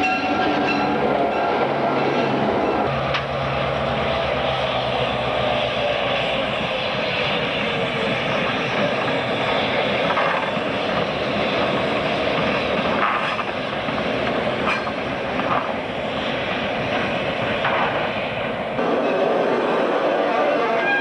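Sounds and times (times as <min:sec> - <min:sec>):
diesel locomotive engine running: 0:00.0 - 0:21.0.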